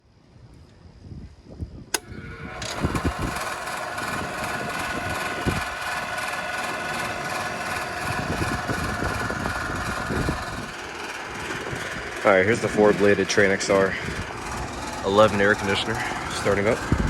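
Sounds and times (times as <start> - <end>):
condenser fan spinning up: 1.8 - 17.0
air conditioner compressor hum: 2.0 - 17.0.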